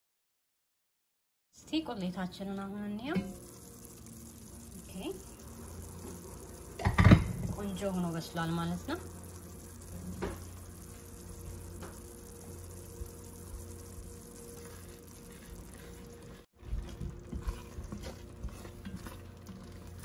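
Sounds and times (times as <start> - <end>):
thick sauce simmering: 2.5 - 20.0
low hum: 3.0 - 20.0.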